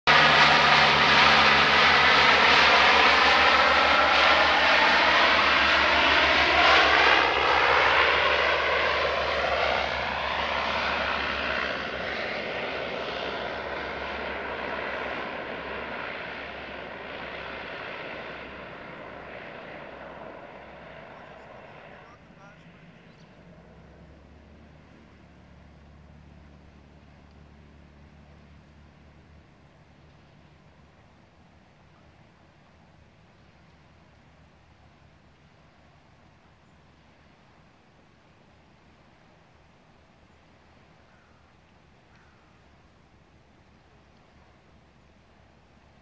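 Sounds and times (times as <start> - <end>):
aircraft engine drone: 0.0 - 46.0.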